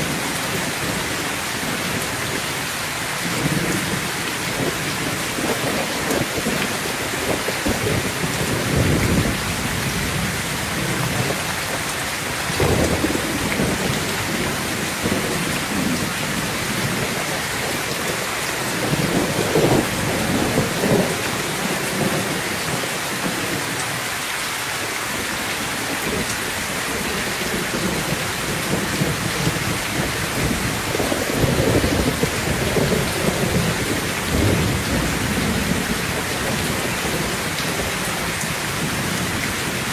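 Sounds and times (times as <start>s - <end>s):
heavy rain on a metal roof: 0.0s - 39.9s
thunder rumbling: 3.3s - 23.8s, 25.9s - 39.9s.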